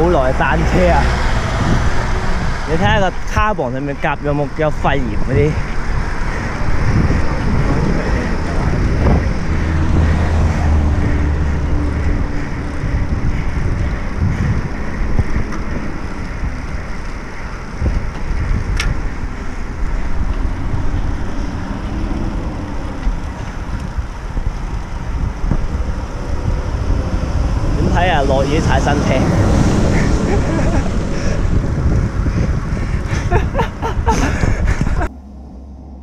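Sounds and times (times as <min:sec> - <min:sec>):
road noise on wet road: 0:00.0 - 0:36.0
wind buffeting microphone: 0:00.0 - 0:36.0.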